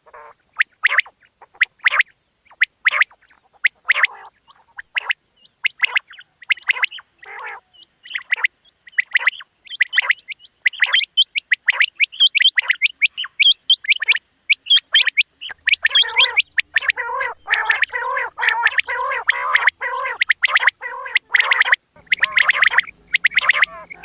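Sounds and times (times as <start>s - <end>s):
quail chirping: 0.0s - 24.0s
harsh churring bird notes: 0.1s - 24.0s.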